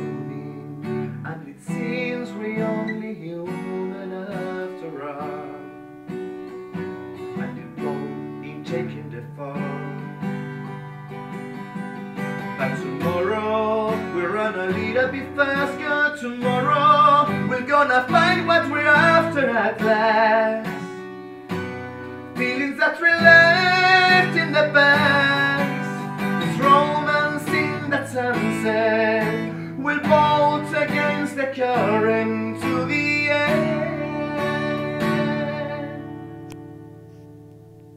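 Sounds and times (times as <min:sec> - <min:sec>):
man singing: 0:00.0 - 0:05.8, 0:06.9 - 0:10.4, 0:12.4 - 0:21.0, 0:22.2 - 0:36.5
acoustic guitar strumming: 0:00.0 - 0:37.9.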